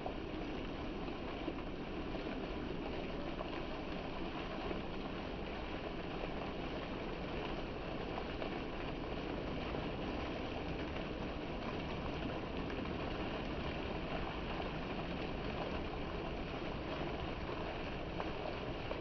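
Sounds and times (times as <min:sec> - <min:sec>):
water fountain splashing: 0:00.0 - 0:19.0.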